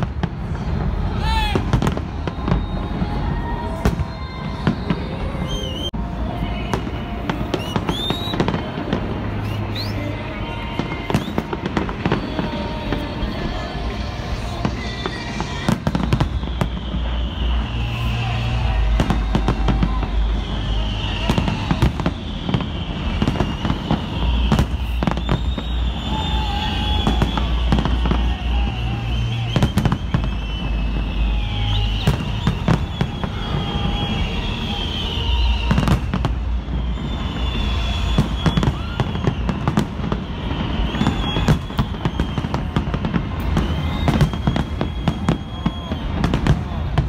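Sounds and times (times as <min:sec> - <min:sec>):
fireworks bangs: 0:00.0 - 0:47.0.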